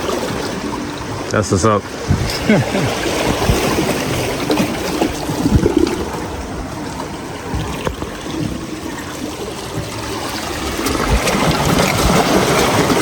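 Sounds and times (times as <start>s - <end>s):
water sloshing and trickling: 0.0s - 13.0s.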